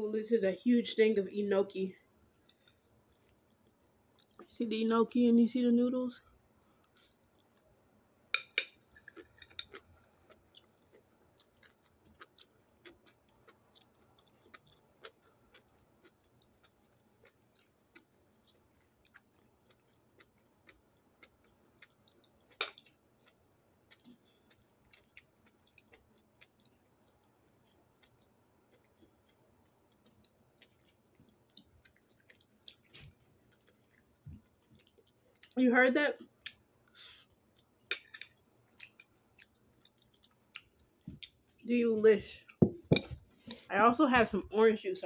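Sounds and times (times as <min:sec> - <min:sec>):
person chewing noodles: 0:02.3 - 0:04.5, 0:06.6 - 0:35.6, 0:36.2 - 0:41.6.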